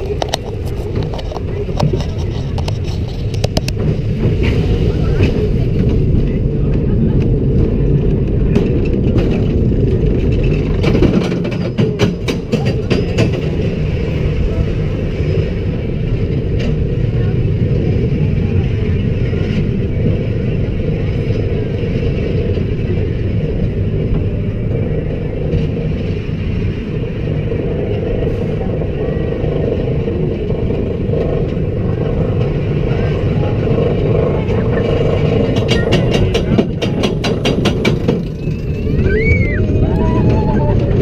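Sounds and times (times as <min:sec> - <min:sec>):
coaster car clatter: 0:00.0 - 0:41.0
rumble of lift and wheels: 0:00.0 - 0:41.0.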